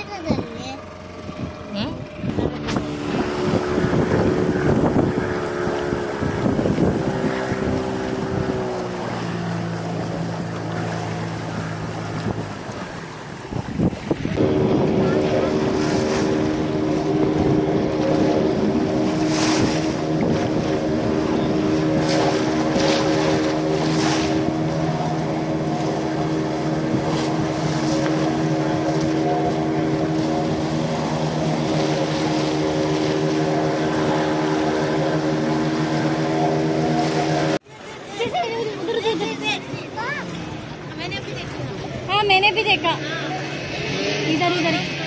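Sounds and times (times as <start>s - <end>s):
boat motor running: 0.0s - 45.0s
water rushing along hull: 0.0s - 45.0s
water splashes: 0.0s - 45.0s.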